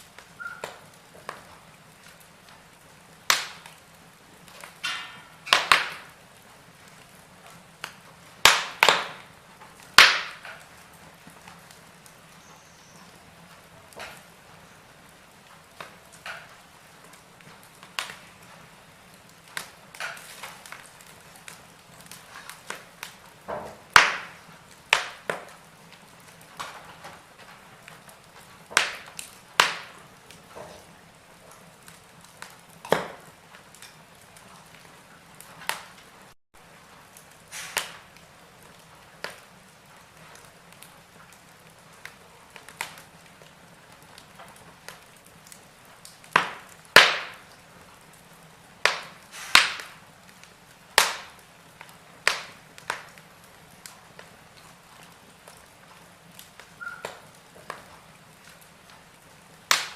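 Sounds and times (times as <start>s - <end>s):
faint steady hiss: 0.0s - 59.9s
wood fire crackling and popping: 0.0s - 59.9s.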